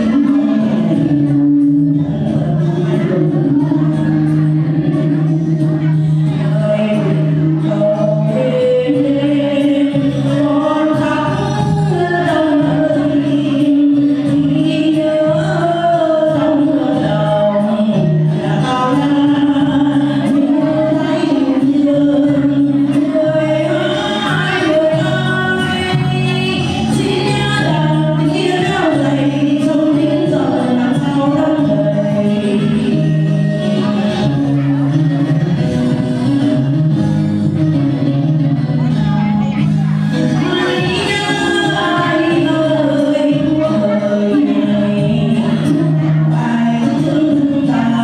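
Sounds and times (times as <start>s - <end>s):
instrumental accompaniment: 0.0s - 48.0s
low bass line: 0.0s - 48.0s.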